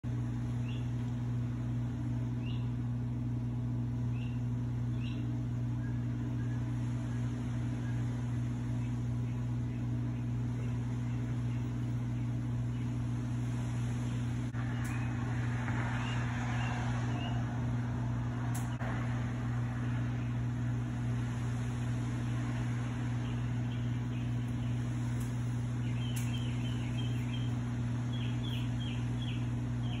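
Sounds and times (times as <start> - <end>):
steady low hum: 0.0 - 30.0
small birds chirping: 0.2 - 17.7, 21.8 - 30.0.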